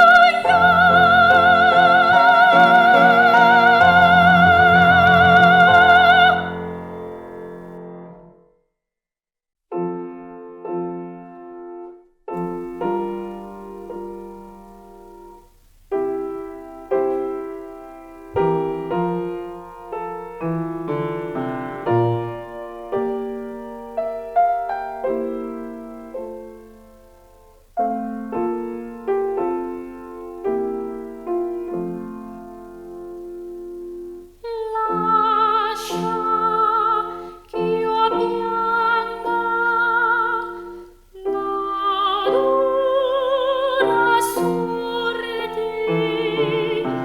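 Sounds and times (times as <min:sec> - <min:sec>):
solo piano chords: 0:00.0 - 0:08.4, 0:09.7 - 0:47.0.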